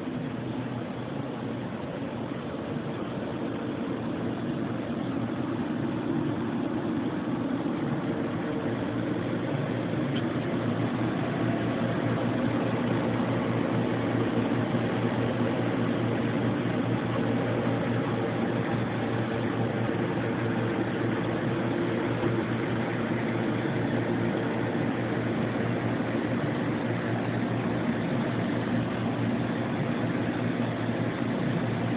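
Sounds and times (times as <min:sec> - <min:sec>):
boring mill machine hum: 0:00.0 - 0:31.9.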